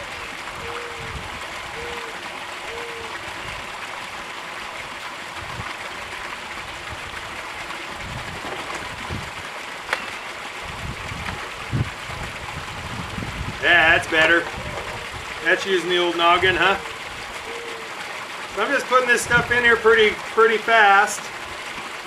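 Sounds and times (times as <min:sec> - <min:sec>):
water pouring into a tub: 0:00.0 - 0:22.0.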